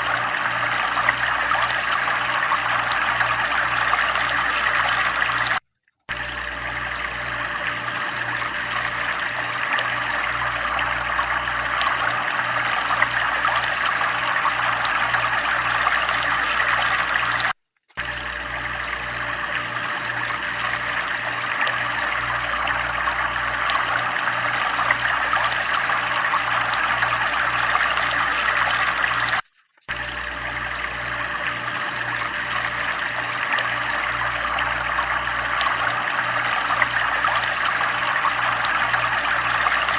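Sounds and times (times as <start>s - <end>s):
water pouring and splashing: 0.0s - 39.9s.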